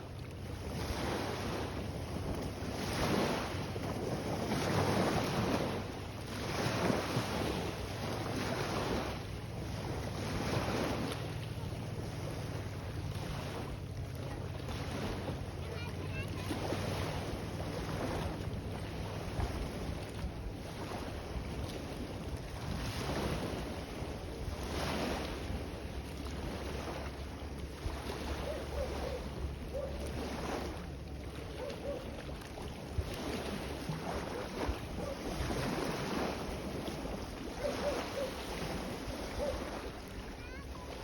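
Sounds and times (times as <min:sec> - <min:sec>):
sea waves washing in: 0:00.0 - 0:41.0.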